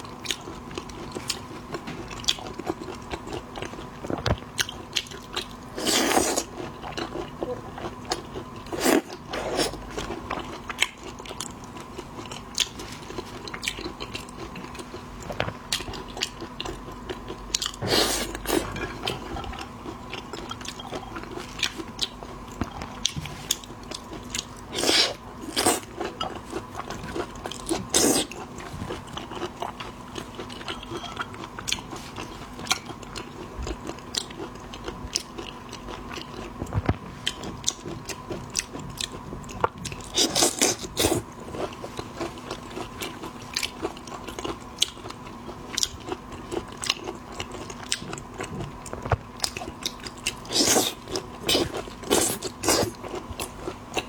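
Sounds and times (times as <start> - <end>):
chewing shellfish: 0.0 - 54.0.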